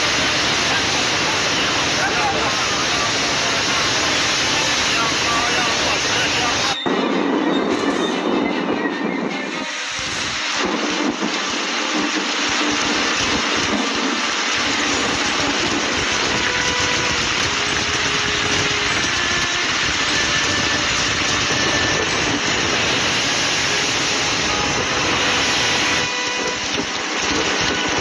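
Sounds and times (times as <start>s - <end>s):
floodwater rushing: 0.0s - 6.8s, 9.4s - 28.0s.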